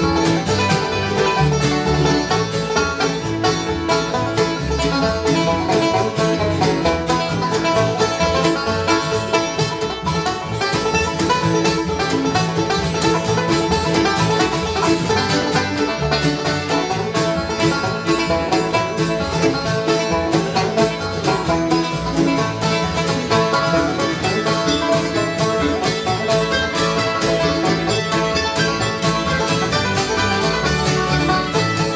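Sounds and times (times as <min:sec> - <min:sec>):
bluegrass band playing: 0:00.0 - 0:31.9.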